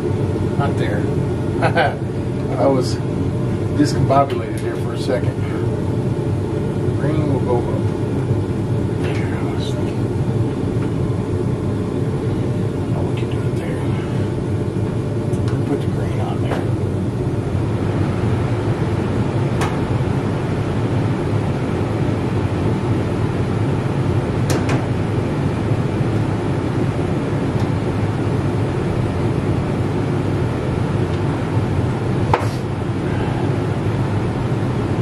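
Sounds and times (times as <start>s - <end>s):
furnace low rumble: 0.0s - 35.0s.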